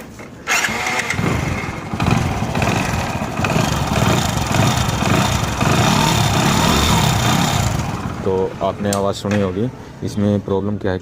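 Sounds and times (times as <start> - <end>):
motorcycle engine starting and idling: 0.4 - 9.8.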